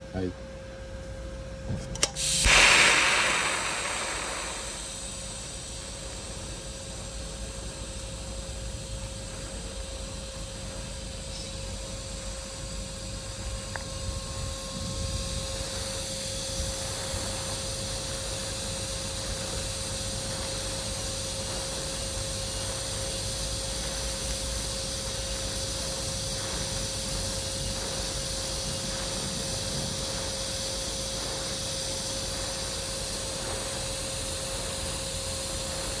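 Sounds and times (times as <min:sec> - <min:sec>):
welding arc hissing: 0:02.0 - 0:36.0.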